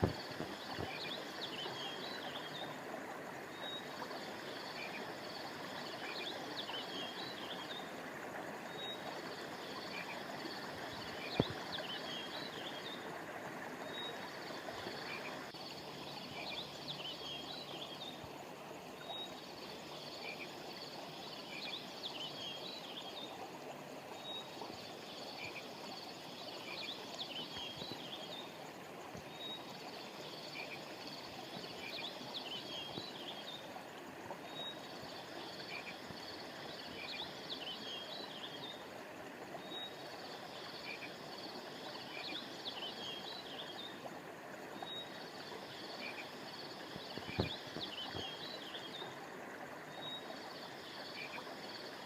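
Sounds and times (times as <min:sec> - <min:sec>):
stream flowing: 0:00.0 - 0:52.0.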